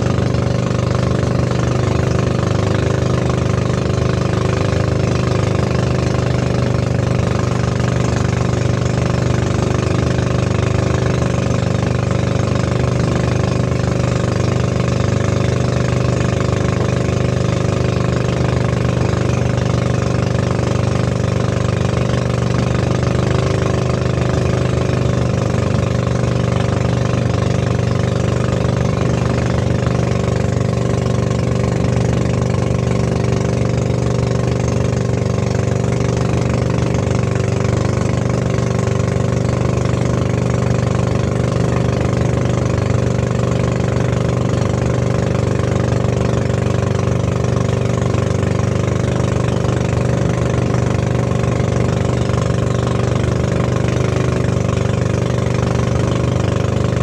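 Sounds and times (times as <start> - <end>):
boat engine running: 0.0 - 57.0
water splashing along hull: 0.0 - 57.0.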